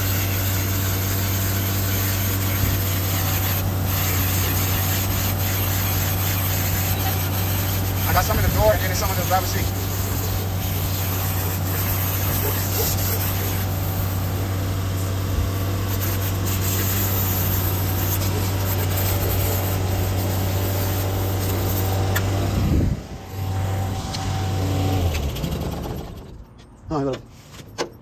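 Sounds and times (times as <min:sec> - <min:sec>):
engine humming: 0:00.0 - 0:26.8.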